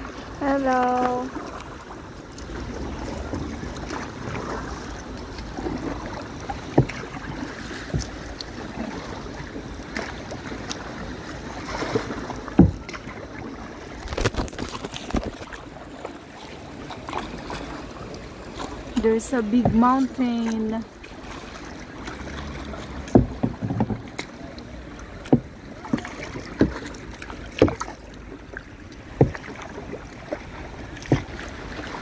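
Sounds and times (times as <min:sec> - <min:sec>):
paddles splashing in water: 0:00.0 - 0:32.0.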